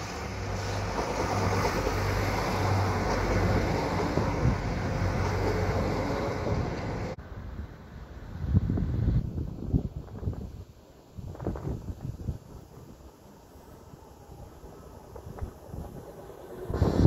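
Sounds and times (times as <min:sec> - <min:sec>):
train passing with wheel noise: 0:00.0 - 0:17.0
wind noise: 0:00.0 - 0:17.0.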